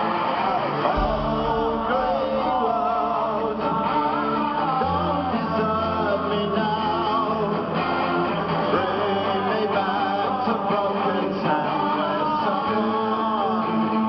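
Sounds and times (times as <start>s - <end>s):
electric guitars: 0.0s - 14.0s
man singing lead: 0.0s - 14.0s.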